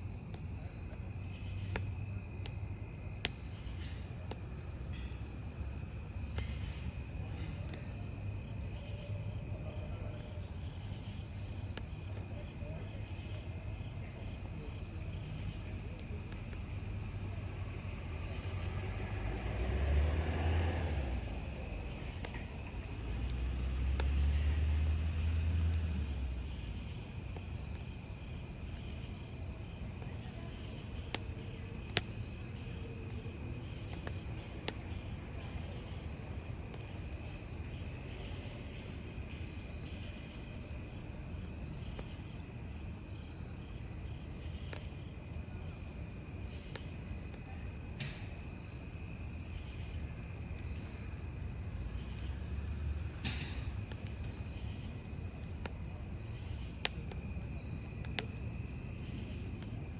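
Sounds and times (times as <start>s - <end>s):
crickets chirring: 0.0s - 59.9s
campfire crackling and popping: 0.1s - 59.9s.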